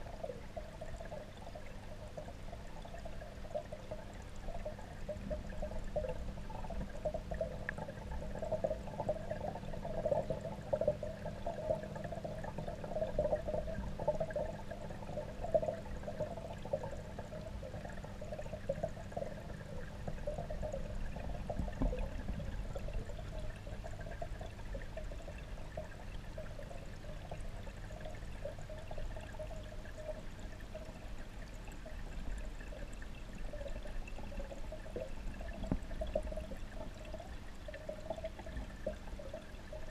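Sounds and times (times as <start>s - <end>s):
low underwater rumble: 0.0s - 39.9s
underwater water rushing and bubbling: 0.0s - 39.9s.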